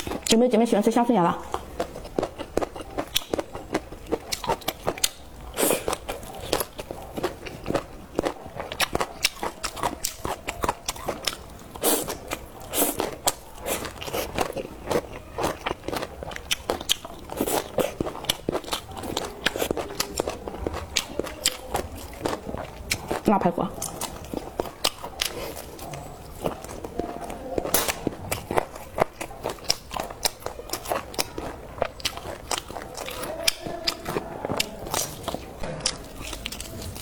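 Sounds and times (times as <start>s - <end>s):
chewing crunchy food: 0.0s - 37.0s.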